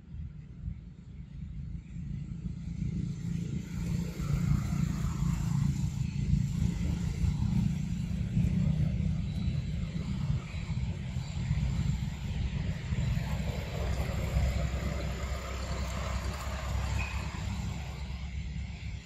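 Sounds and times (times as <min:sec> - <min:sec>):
distant engine rumble: 0:00.0 - 0:19.0.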